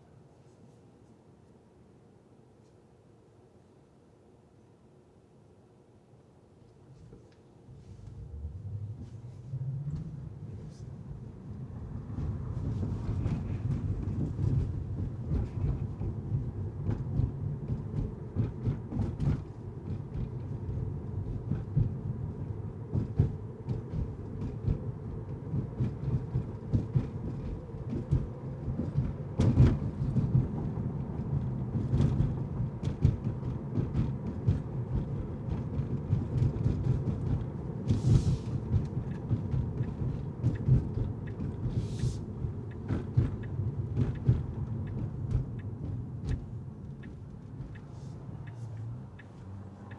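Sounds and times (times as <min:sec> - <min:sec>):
car road rumble: 0:07.6 - 0:49.9.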